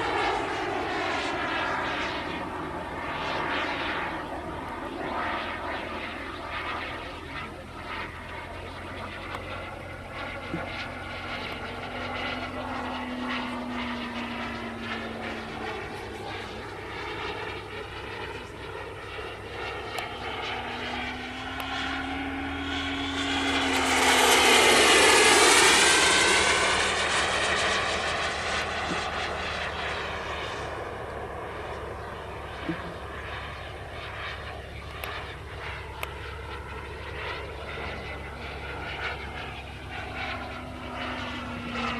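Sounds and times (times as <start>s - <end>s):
model aircraft engine passing: 0.0s - 41.9s.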